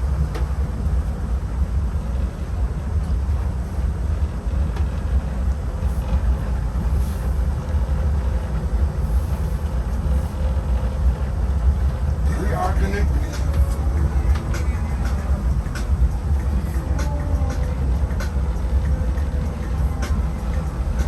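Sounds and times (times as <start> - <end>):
boat engines rumbling: 0.0 - 21.0.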